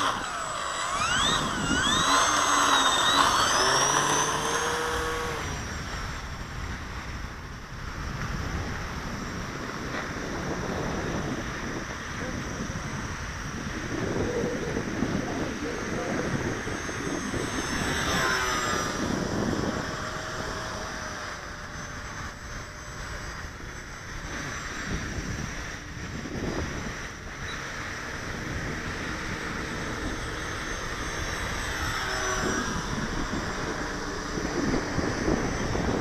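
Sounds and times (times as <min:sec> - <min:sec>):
model plane motors whining: 0:00.0 - 0:36.0.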